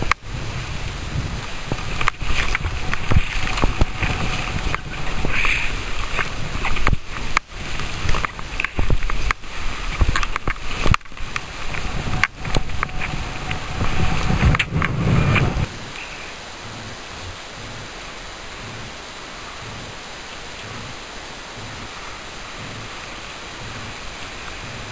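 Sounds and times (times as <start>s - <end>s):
wind on microphone: 0.0s - 24.9s
scraping sliding down snow: 0.3s - 24.9s.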